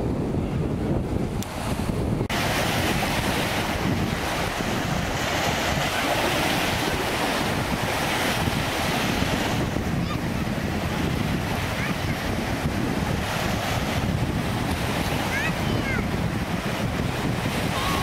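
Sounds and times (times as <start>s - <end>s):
wind buffeting microphone: 0.0s - 18.0s
small waves breaking on shore: 1.2s - 18.0s.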